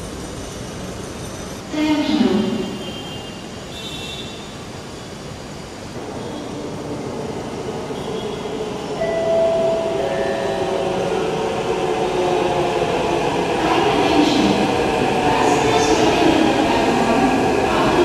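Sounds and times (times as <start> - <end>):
metro train running: 0.0 - 18.0.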